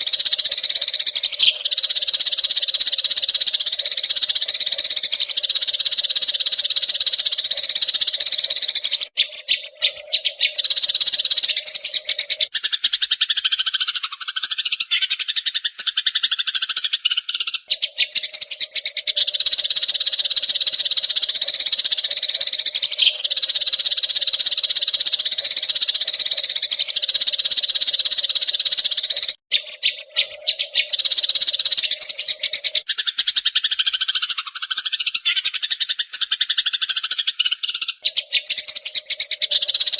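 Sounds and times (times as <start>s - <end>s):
sparrows chirping chatter: 0.0s - 39.9s.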